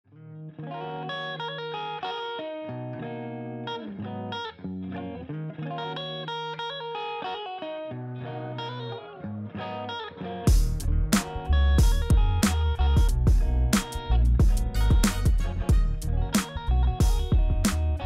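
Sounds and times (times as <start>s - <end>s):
guitar intro music: 0.1s - 18.0s.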